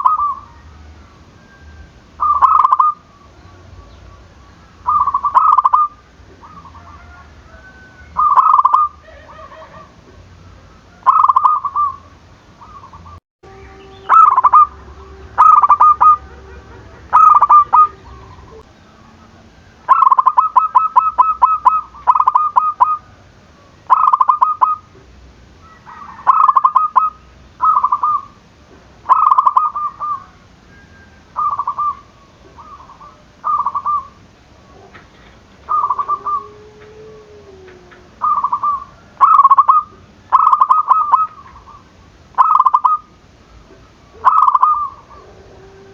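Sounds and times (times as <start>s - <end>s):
dove cooing: 0.0s - 0.8s, 2.2s - 24.9s, 25.6s - 28.4s, 29.1s - 45.9s.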